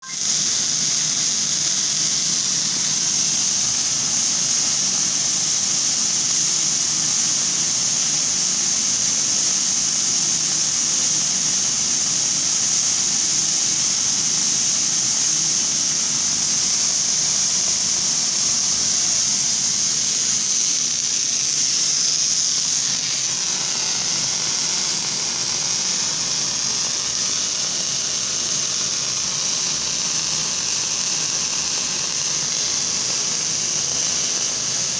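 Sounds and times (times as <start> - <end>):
welding arc hissing: 0.0 - 34.9.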